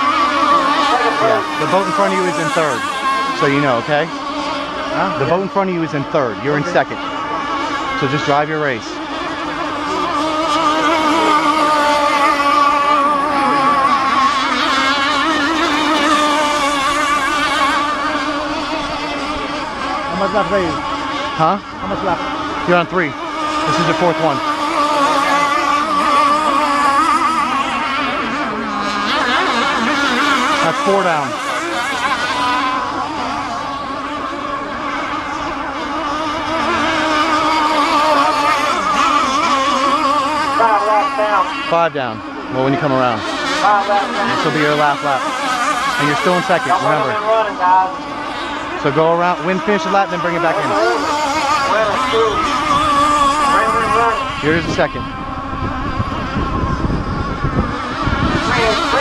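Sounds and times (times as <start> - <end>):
model boat motors whining: 0.0 - 59.0.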